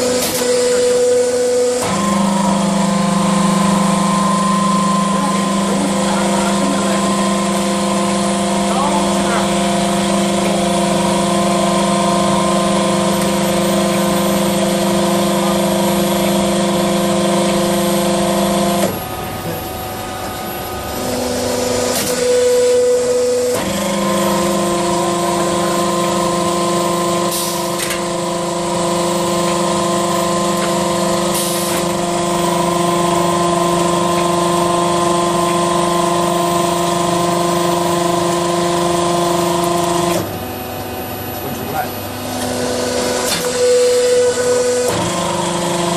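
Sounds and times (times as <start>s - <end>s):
machine electric hum: 0.0s - 45.9s.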